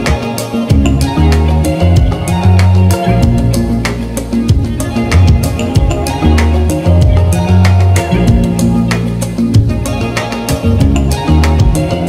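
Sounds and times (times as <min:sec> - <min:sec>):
background music with drums and bass: 0:00.0 - 0:12.0.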